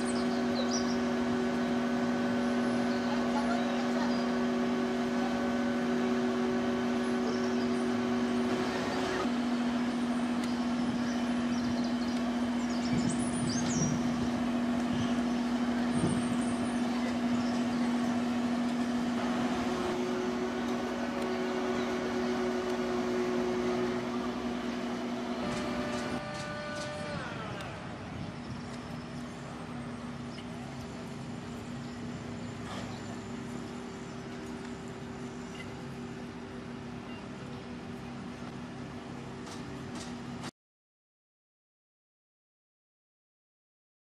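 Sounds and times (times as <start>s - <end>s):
crane engine running: 0.0s - 40.5s
heavy construction machinery drone: 0.0s - 40.5s.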